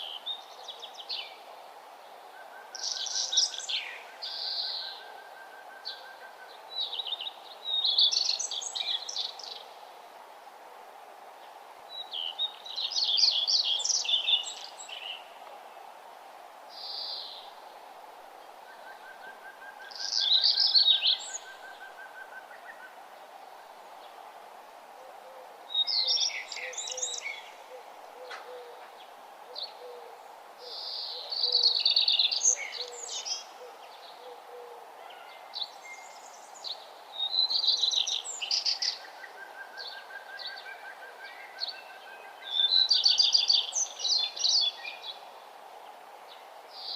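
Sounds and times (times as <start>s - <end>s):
songbird singing: 0.0s - 10.1s, 11.3s - 16.0s, 16.6s - 46.9s
steady background hiss: 0.0s - 46.9s.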